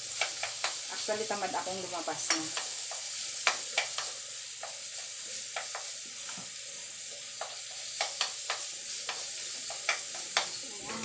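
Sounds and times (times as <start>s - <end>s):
ginger sizzling in a wok: 0.0s - 11.0s.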